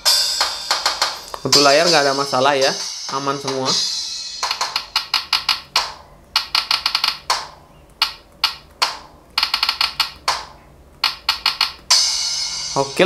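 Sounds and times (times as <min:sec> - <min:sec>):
electronic drum and cymbal hits: 0:00.0 - 0:07.6, 0:08.8 - 0:13.0.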